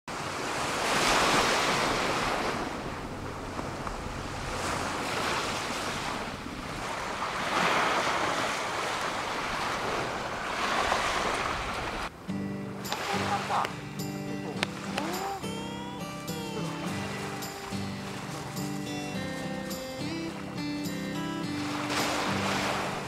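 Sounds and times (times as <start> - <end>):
small waves washing on beach: 0.1 - 23.0.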